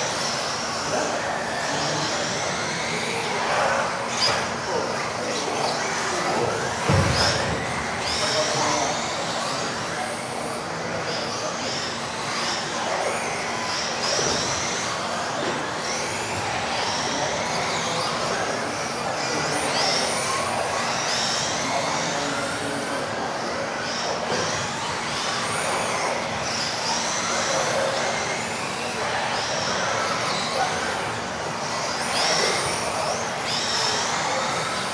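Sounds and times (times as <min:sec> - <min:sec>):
electric rc car motors whining: 0:00.0 - 0:34.9.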